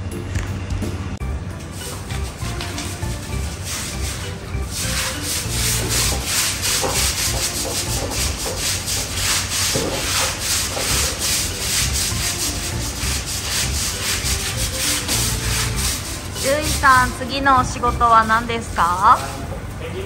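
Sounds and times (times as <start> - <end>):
brush scrubbing wet floor: 1.7 - 19.6.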